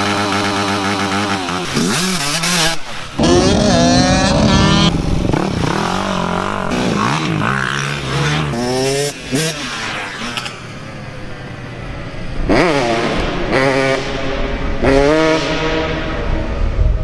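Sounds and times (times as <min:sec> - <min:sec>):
dirt bike engines revving: 0:00.0 - 0:16.6.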